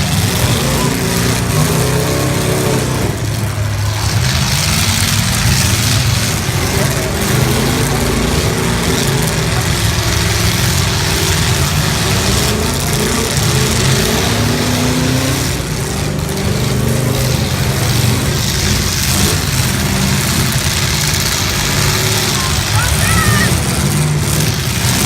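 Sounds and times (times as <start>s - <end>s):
car engines revving together: 0.0s - 25.0s.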